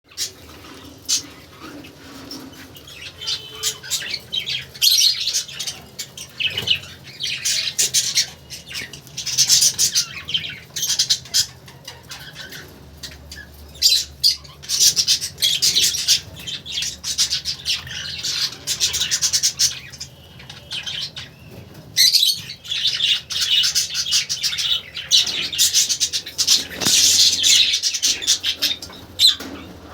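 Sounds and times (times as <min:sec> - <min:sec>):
budgerigars chirping and chattering: 0:00.1 - 0:29.9.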